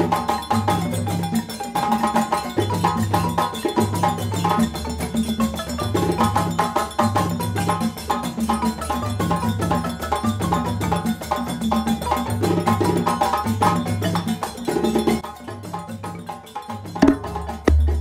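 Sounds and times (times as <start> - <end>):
drums: 0.0 - 18.0
wooden mallet instrument melody: 0.0 - 18.0.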